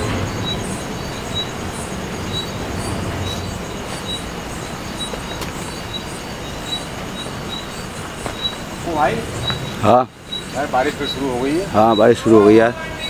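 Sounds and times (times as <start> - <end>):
insect fast high trill: 0.0 - 13.0
insect high chirps: 0.0 - 13.0
rushing outdoor noise with rumble: 0.0 - 13.0.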